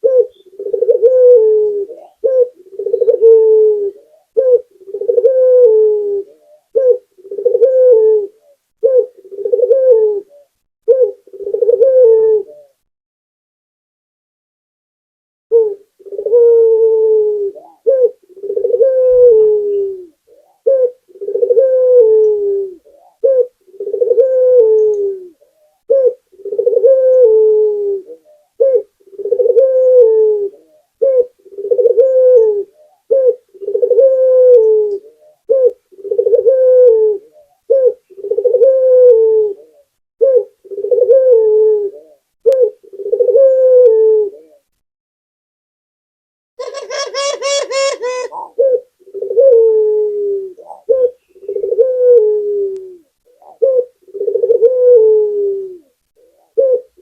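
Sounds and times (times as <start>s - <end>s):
dove cooing: 0.0s - 12.8s, 15.5s - 44.7s, 46.6s - 57.0s.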